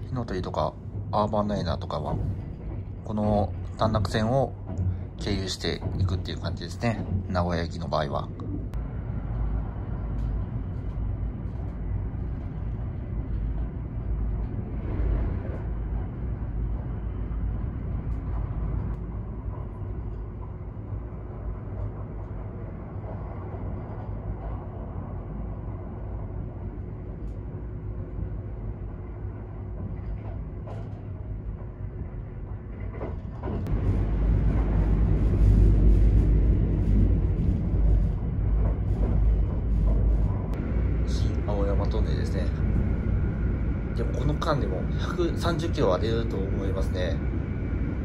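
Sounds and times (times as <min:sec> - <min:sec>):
train wheels and motors rumbling: 0:00.0 - 0:48.0.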